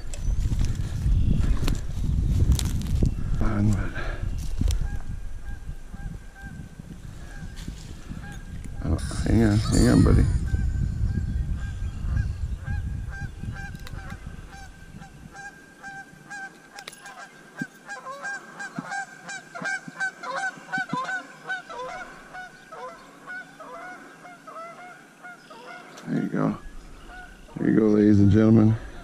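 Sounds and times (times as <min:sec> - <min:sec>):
birds honking: 0:03.9 - 0:29.0.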